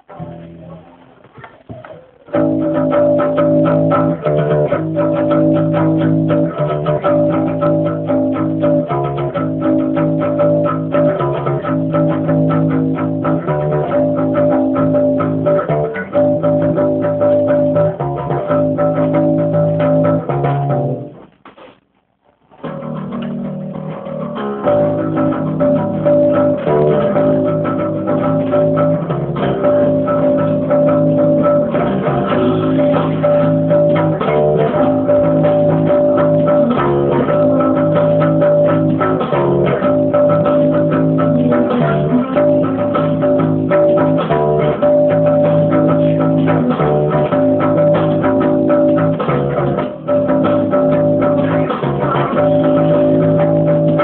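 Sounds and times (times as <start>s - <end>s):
electric bass guitar: 0.0s - 21.8s, 22.4s - 54.0s
guitar: 0.0s - 54.0s.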